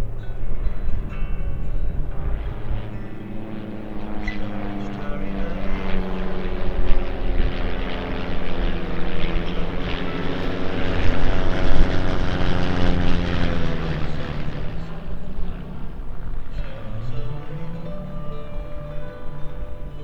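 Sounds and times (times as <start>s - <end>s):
propeller planes droning past: 0.0s - 20.0s.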